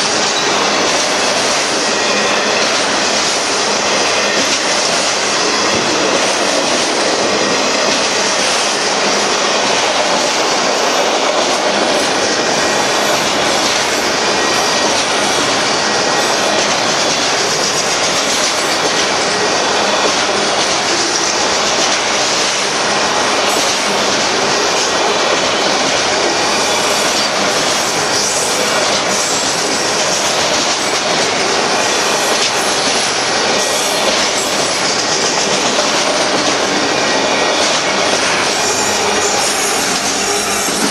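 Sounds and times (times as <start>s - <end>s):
freight train wheels on rail: 0.0s - 40.9s.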